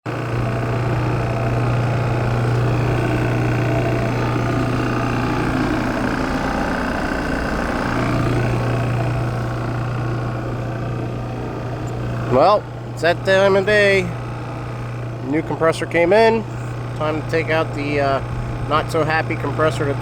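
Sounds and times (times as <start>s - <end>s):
vehicle engine humming: 0.1s - 20.0s.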